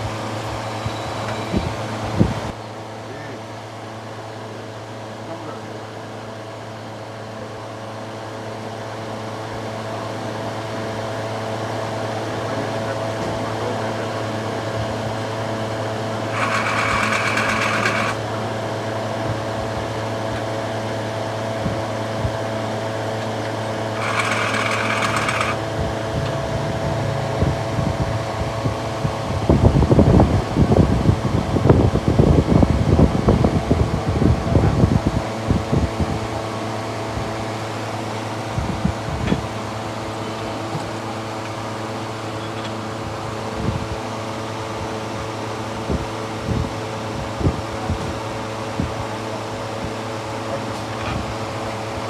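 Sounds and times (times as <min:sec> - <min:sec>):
steady mechanical hum: 0:00.0 - 0:52.0.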